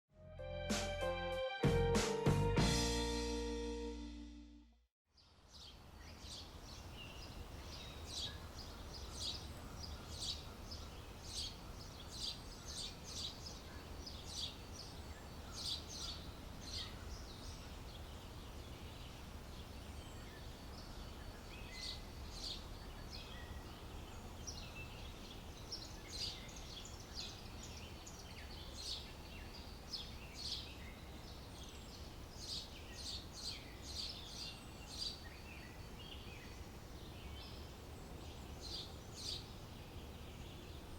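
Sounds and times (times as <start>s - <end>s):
small birds chirping: 5.1s - 40.9s.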